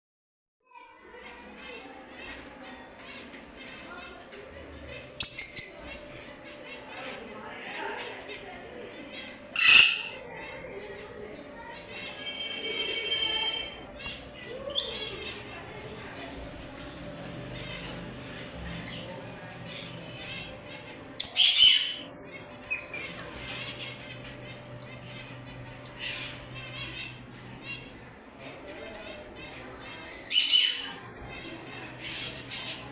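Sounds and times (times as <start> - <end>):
lovebirds chirping: 0.8 - 32.9.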